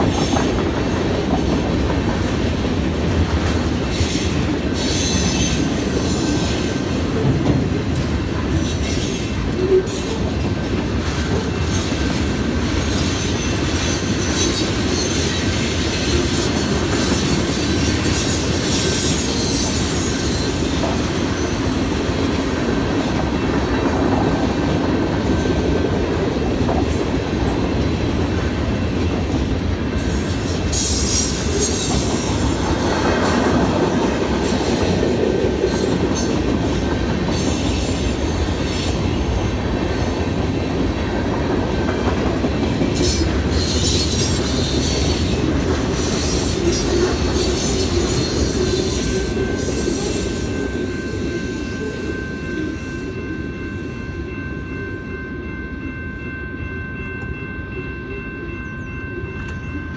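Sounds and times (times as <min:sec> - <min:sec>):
freight train rumble and clatter: 0:00.0 - 0:59.9
crossing bell ringing: 0:09.3 - 0:59.9.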